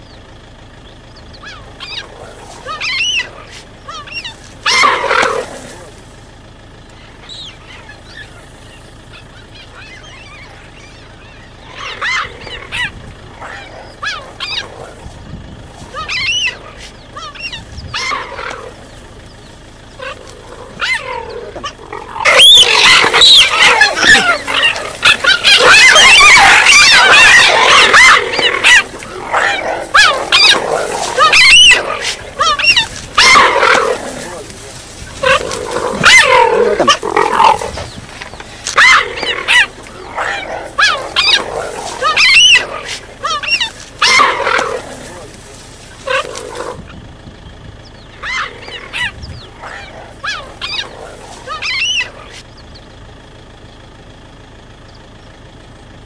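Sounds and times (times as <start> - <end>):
cheetahs squealing and chirping: 0.8 - 53.1.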